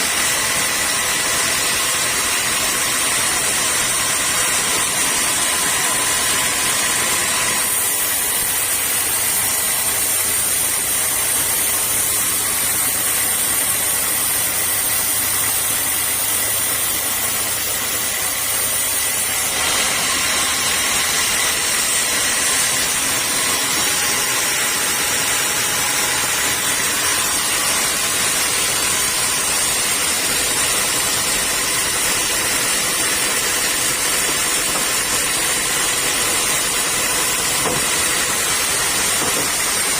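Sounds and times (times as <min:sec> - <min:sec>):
sawmill saw whine: 0:00.0 - 0:39.9.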